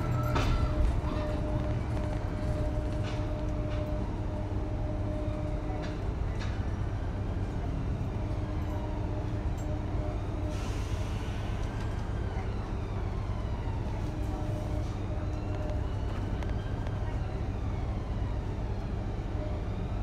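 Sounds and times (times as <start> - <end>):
bus engine rumble: 0.0 - 20.0.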